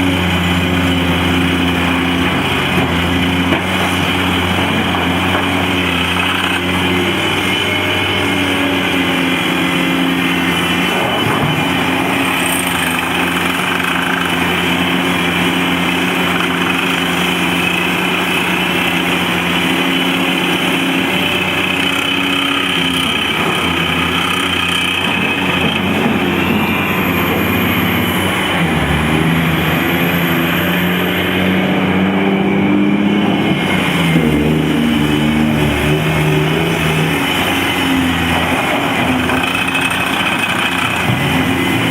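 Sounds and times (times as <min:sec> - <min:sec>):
heavy diesel engines working: 0:00.0 - 0:41.9.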